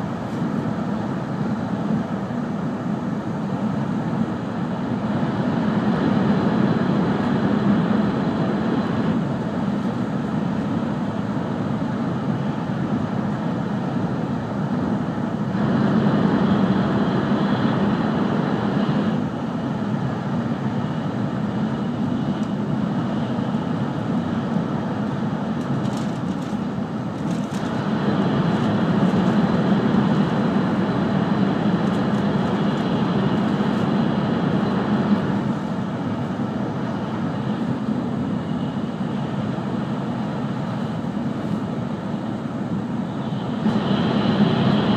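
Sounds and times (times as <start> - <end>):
train cabin rumble and rush: 0.0 - 44.9.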